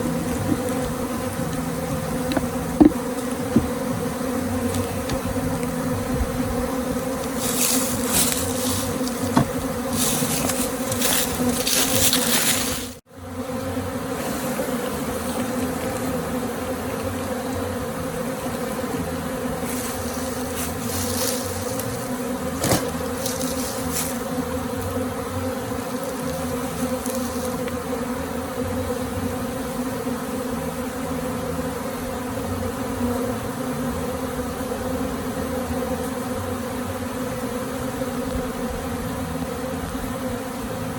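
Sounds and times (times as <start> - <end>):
bee swarm buzzing: 0.0 - 40.9.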